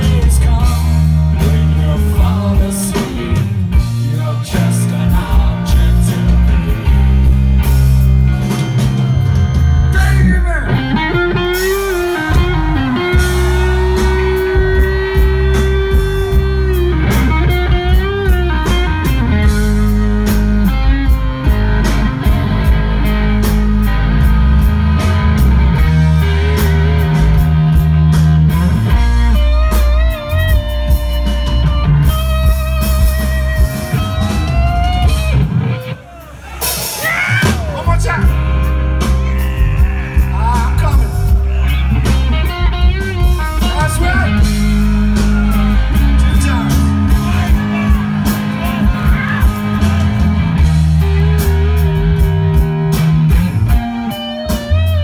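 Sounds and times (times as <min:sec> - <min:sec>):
rock band playing slow blues: 0:00.0 - 0:55.0
electric guitar bent notes: 0:04.6 - 0:55.0.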